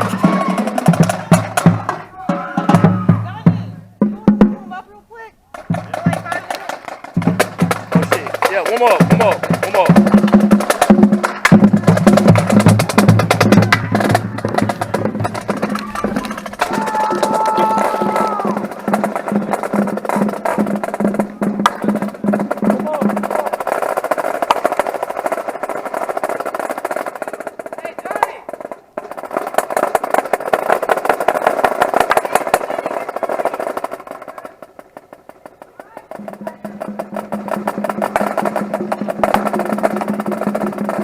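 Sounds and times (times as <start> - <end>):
marching drumline playing: 0.0 - 41.0.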